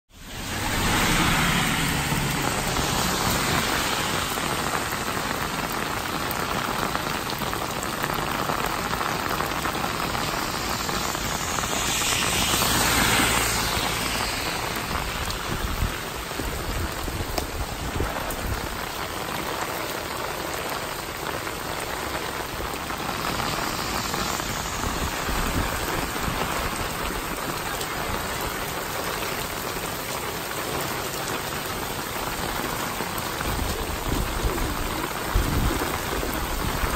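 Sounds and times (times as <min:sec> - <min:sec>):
heavy rain on street: 0:00.1 - 0:36.9.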